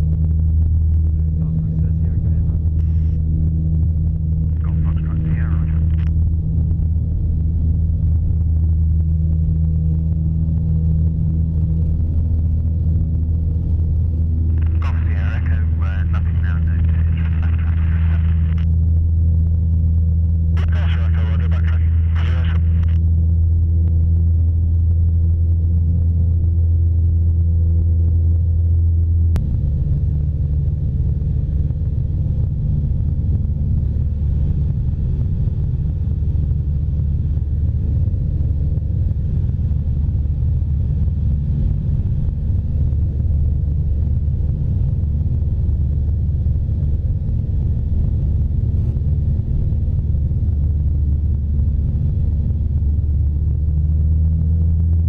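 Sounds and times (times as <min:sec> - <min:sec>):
aircraft engine droning in cockpit: 0:00.0 - 0:55.0.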